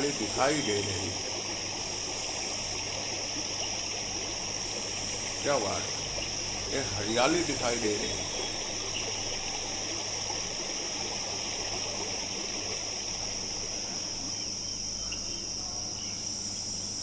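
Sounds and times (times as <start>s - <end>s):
flowing stream water: 0.0s - 17.0s
high-pitched insect chorus: 0.0s - 17.0s.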